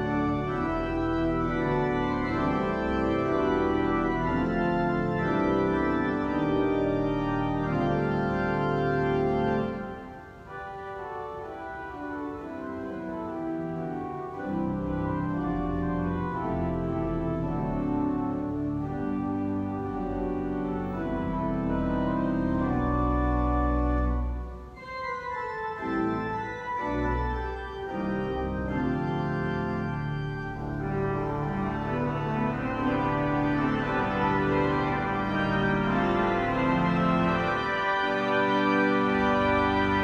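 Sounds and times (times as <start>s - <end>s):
deep organ pedal bass: 0.0s - 10.0s, 11.6s - 40.0s
church organ playing chords: 0.0s - 40.0s.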